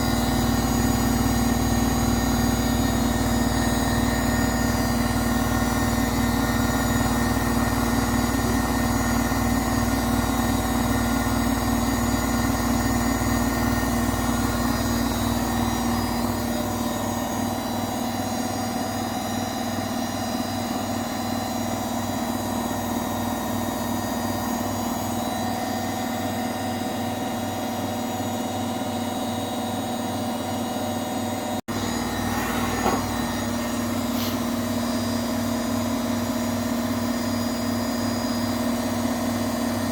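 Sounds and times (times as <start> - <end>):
washing machine spinning whine: 0.0 - 39.9.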